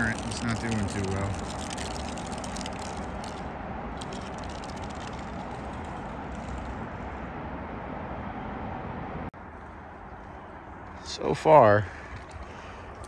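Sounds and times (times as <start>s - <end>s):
distant highway traffic: 0.0s - 13.0s.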